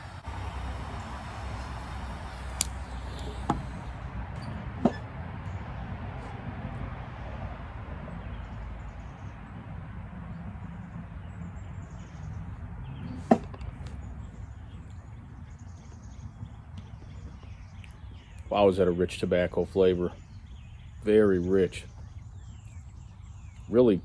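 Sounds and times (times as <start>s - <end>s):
low rushing noise: 0.0s - 20.1s.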